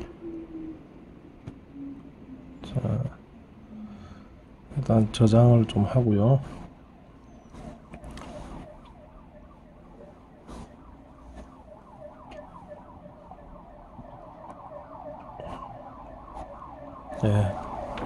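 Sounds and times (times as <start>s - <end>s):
distant siren wailing: 0.0s - 18.0s.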